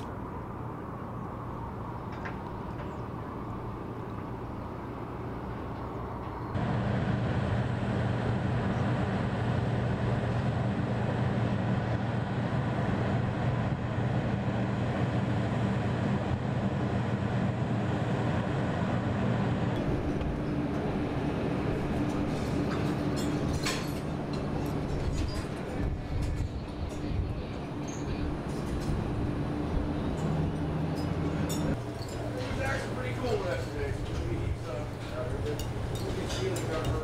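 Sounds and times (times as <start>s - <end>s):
heavy machinery drone: 0.0s - 37.0s.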